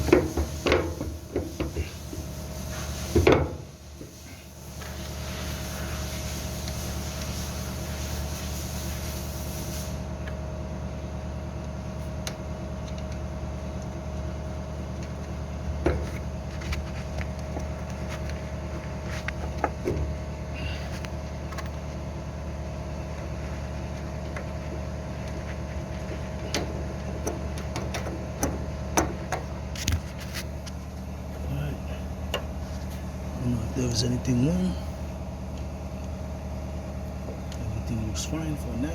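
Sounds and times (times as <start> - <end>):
low background hum: 0.0 - 38.9.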